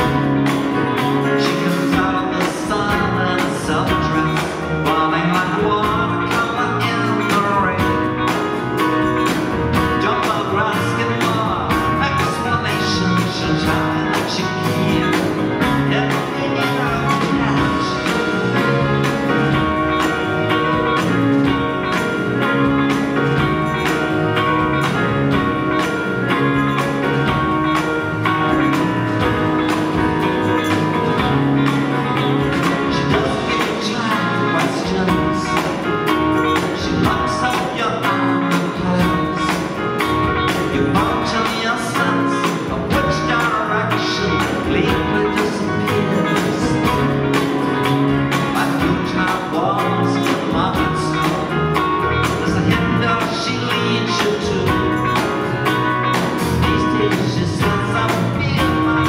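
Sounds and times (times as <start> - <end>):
man singing: 0.0 - 59.0
soft rock band playing: 0.0 - 59.0.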